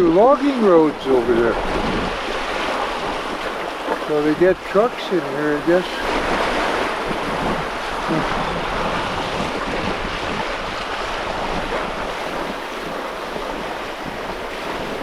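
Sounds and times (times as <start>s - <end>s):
water splashing along boat hull: 0.0s - 15.0s
wind buffeting microphone: 0.0s - 15.0s.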